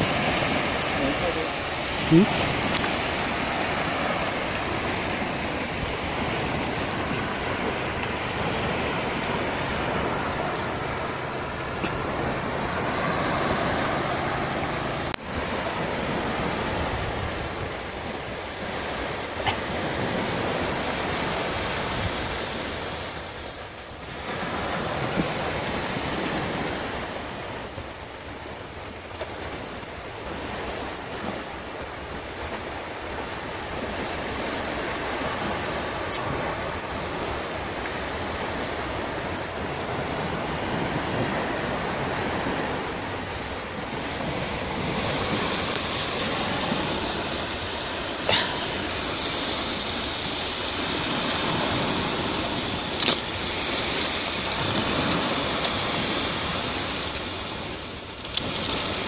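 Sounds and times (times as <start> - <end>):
surf washing up a beach: 0.0 - 59.0.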